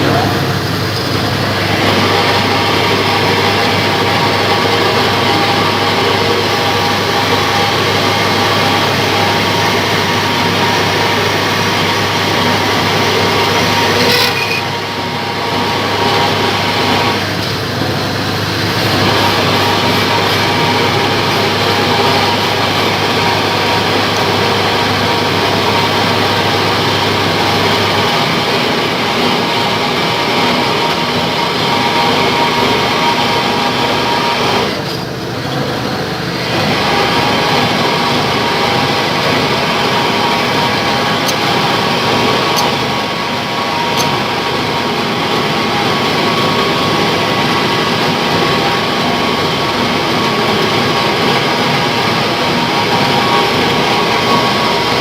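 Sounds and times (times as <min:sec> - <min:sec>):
metal lathe running: 0:00.0 - 0:55.0.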